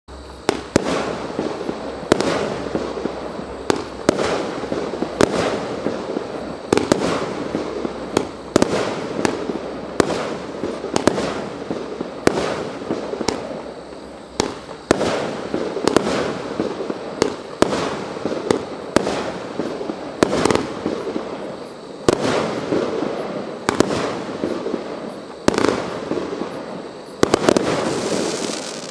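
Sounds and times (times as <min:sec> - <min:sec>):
firework shells bursting: 0:00.3 - 0:28.9
firework launch bangs: 0:00.4 - 0:28.9.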